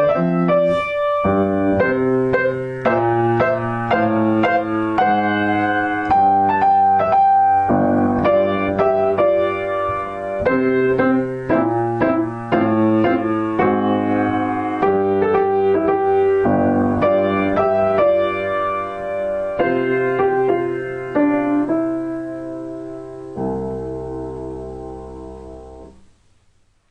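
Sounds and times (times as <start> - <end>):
solo piano melody: 0.0 - 26.9.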